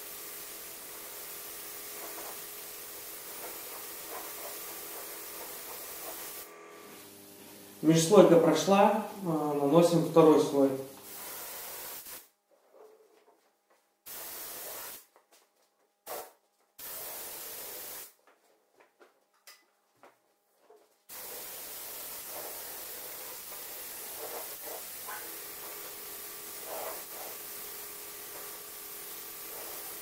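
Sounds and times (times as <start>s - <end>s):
spray gun hissing: 0.0s - 12.3s, 14.1s - 15.0s, 16.1s - 18.1s, 21.1s - 30.0s.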